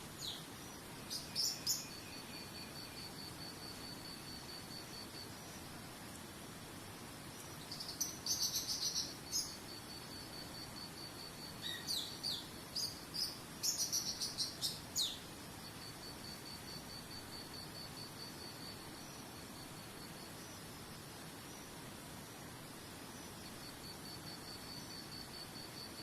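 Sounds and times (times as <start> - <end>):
songbird chirping: 0.0 - 6.4, 7.2 - 21.8
cricket trilling: 0.0 - 21.8, 22.6 - 26.0.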